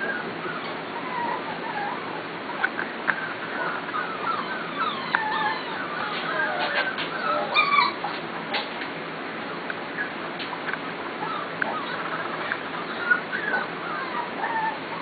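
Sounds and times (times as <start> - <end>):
puppies whimpering: 0.0 - 8.7, 9.9 - 15.0.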